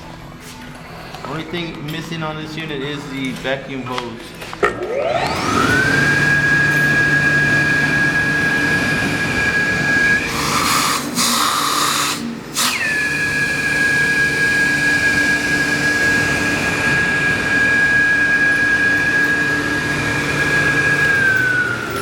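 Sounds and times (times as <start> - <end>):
vacuum dust collector whining: 0.0 - 22.0.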